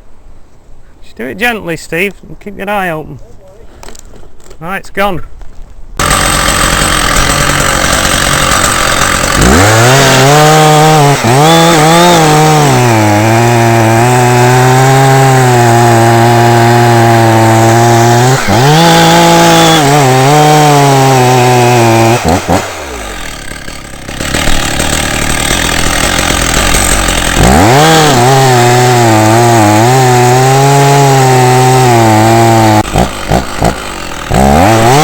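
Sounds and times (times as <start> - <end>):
chainsaw cutting wood: 6.0 - 35.0.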